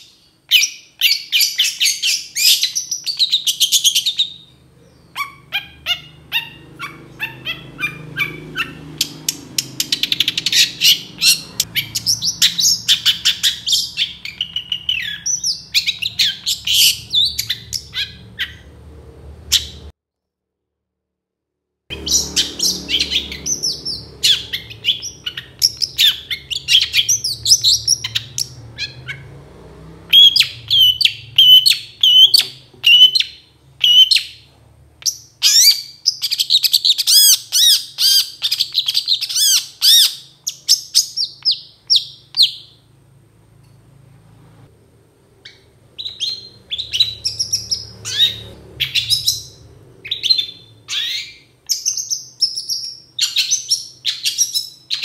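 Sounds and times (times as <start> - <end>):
bird singing harsh chattering: 0.0 - 18.8, 21.9 - 29.4, 30.1 - 42.8, 45.5 - 55.0.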